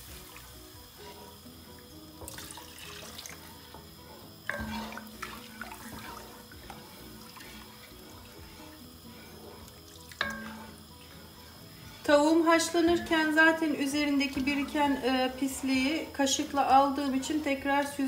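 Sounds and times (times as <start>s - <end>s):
soft background music: 0.0s - 18.0s
spoon stirring liquid in a pot: 0.0s - 18.0s.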